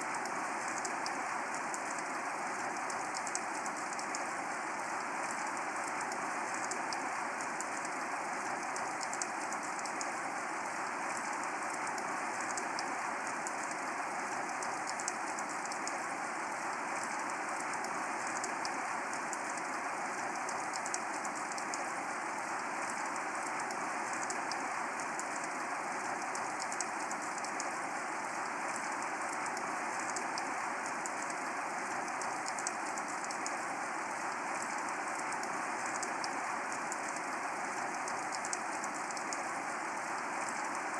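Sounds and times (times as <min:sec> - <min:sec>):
steady rain hiss: 0:00.0 - 0:40.9
rain drop ticks: 0:00.1 - 0:40.9.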